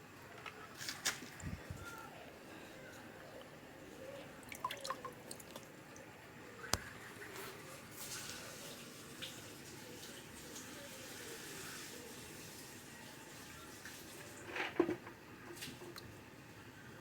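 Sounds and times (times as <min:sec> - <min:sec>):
faint moving water: 0:00.0 - 0:17.0.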